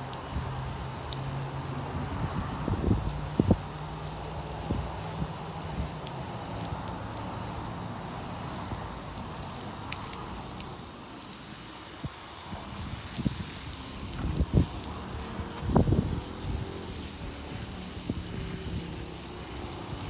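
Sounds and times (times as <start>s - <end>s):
water spraying from hose onto soil: 0.0s - 20.0s.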